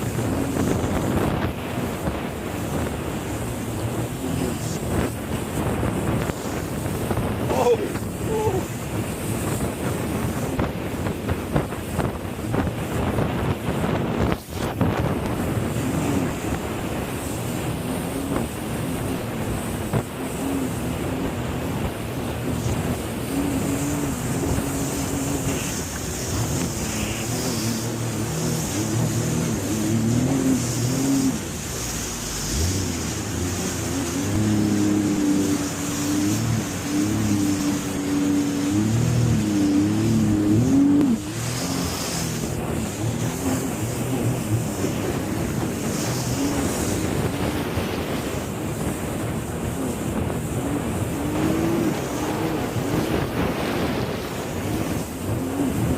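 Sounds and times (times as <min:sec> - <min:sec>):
jet ski engine revving: 0:00.0 - 0:55.9
water splashing: 0:00.0 - 0:55.9
wind rushing over microphone: 0:00.0 - 0:55.9.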